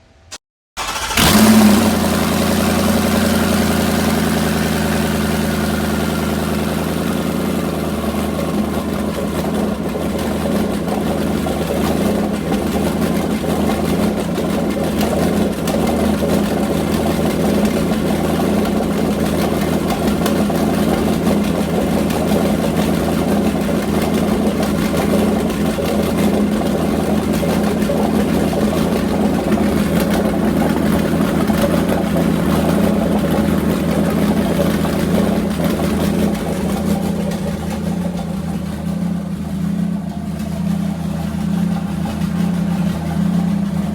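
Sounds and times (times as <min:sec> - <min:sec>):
car engine starting and idling: 0:00.0 - 0:43.9.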